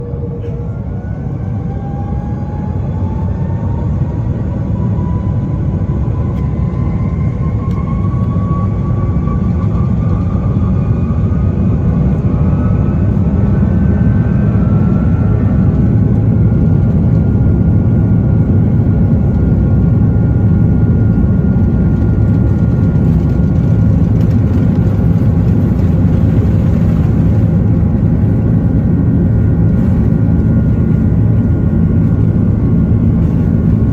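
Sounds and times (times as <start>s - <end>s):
jet engines spooling up in cabin: 0.0s - 33.9s.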